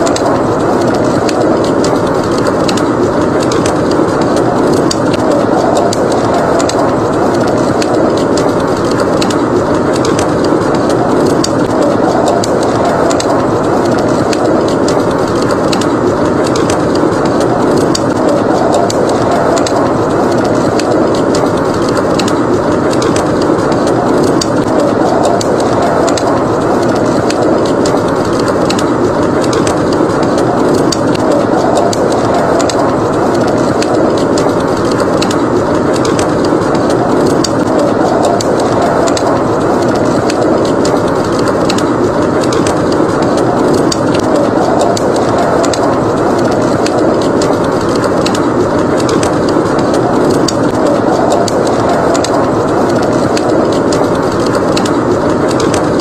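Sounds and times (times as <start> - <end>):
wind rushing: 0.0 - 56.0
wood fire crackling: 0.0 - 56.0.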